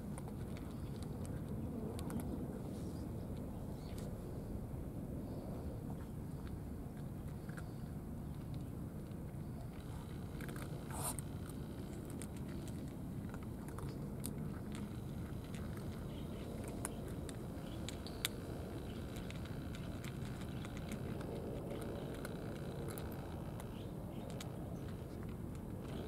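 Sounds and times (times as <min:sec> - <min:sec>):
cats chewing and licking: 0:00.0 - 0:26.0
low background rumble: 0:00.0 - 0:26.0.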